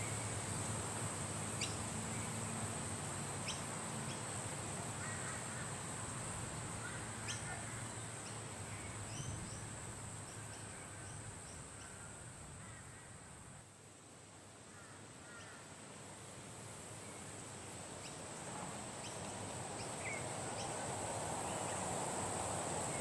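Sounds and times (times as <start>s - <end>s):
high insect drone: 0.0s - 13.8s, 14.5s - 23.0s
wind: 0.0s - 23.0s.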